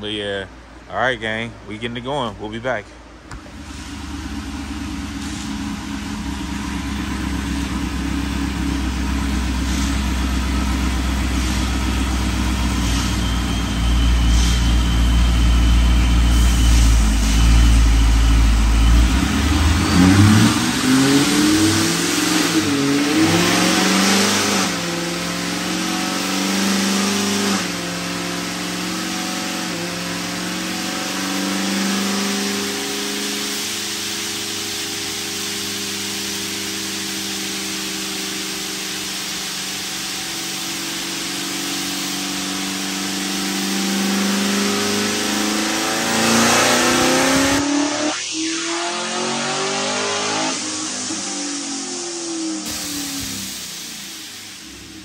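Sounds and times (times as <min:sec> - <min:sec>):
car engine revving on dyno: 0:03.1 - 0:55.0.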